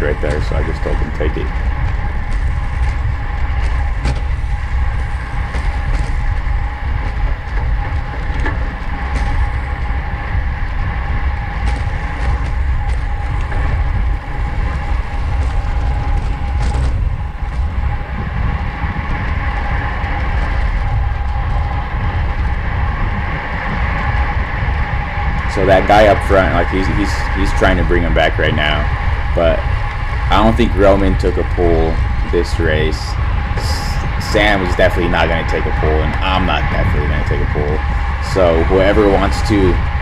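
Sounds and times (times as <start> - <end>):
bicycle whirring hum: 0.0 - 40.0
wind rumbling on microphone: 0.0 - 40.0.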